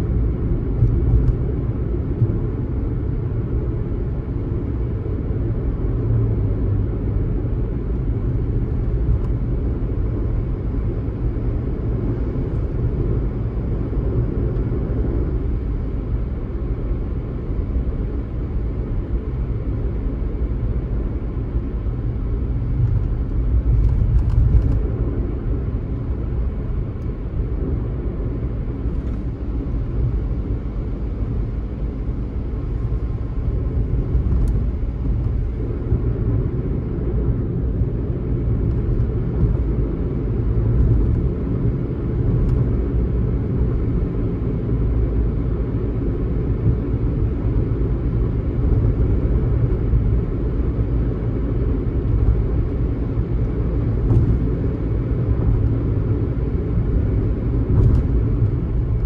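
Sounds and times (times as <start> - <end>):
car driving road noise: 0.0 - 59.0.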